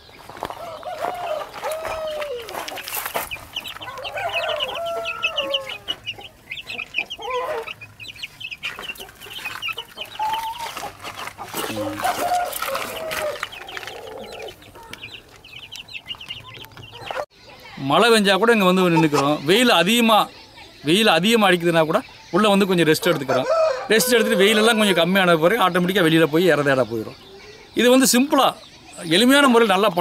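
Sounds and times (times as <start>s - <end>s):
chicks peeping: 0.0s - 30.0s
hen clucking: 0.0s - 30.0s.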